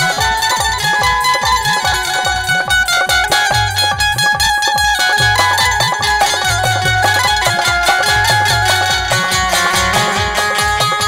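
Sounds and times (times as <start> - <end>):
drums quick steady beat: 0.0 - 11.0
high melody line: 0.0 - 11.0.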